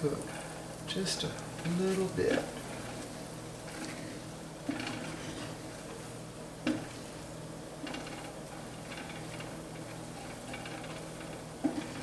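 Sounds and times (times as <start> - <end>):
light sizzle: 0.0 - 12.0
spatula scraping skillet: 1.6 - 12.0.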